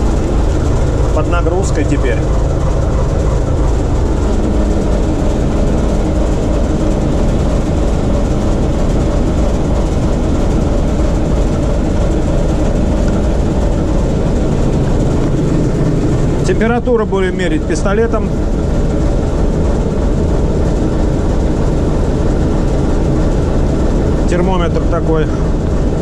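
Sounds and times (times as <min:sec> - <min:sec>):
deep diesel engine drone: 0:00.0 - 0:26.0.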